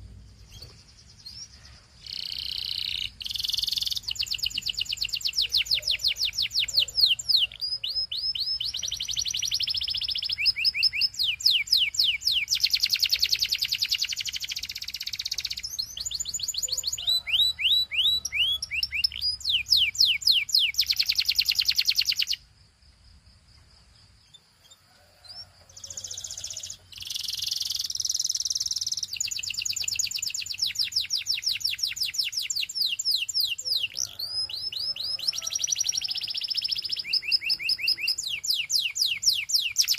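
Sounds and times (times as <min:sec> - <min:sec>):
canary singing: 0:00.0 - 0:22.4, 0:24.2 - 0:39.9.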